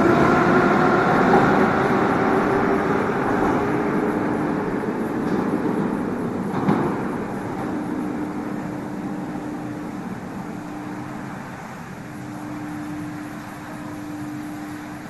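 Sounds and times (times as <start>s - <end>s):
electric hum: 0.0s - 15.0s
metro train rumbling: 0.0s - 15.0s.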